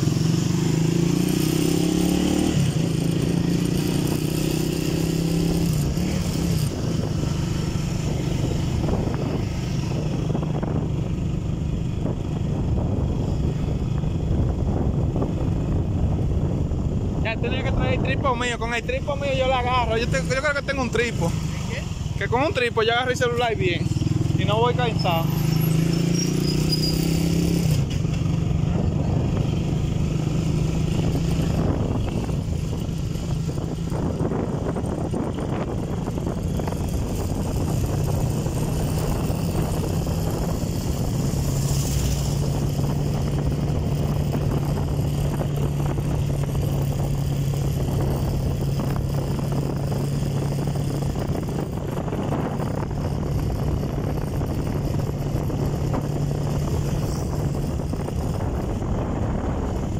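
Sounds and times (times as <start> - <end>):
vehicle engine humming: 0.0 - 59.9
wind and road noise: 0.0 - 59.9.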